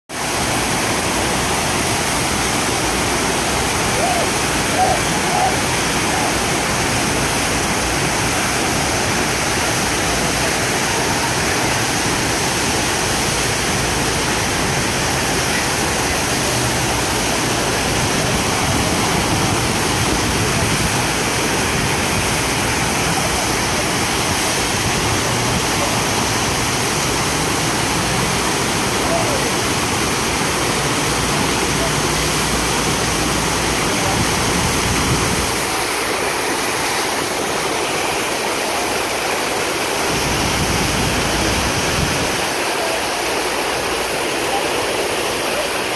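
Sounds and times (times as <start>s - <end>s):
water rushing over ramp: 0.1s - 45.9s.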